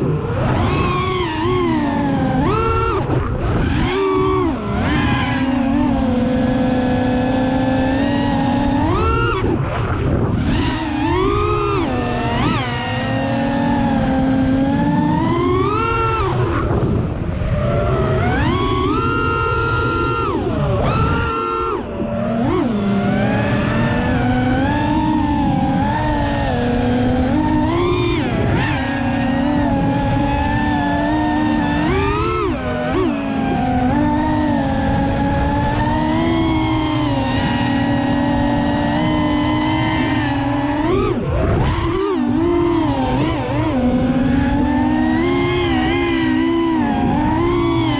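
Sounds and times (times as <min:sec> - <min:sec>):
quadcopter motors whining: 0:00.0 - 0:47.9
wind noise: 0:00.0 - 0:47.9.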